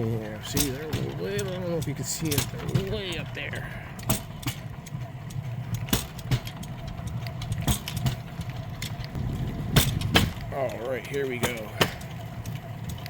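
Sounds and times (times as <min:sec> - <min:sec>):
steel wheels rolling on track: 0:00.0 - 0:13.0
wheels clacking over rail joints: 0:00.0 - 0:13.0.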